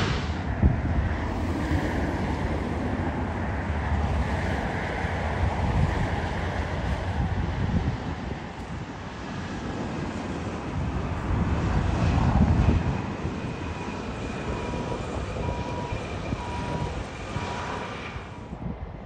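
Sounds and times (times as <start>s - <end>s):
jet engines roaring: 0.0s - 19.0s
steady high whine: 0.0s - 19.0s.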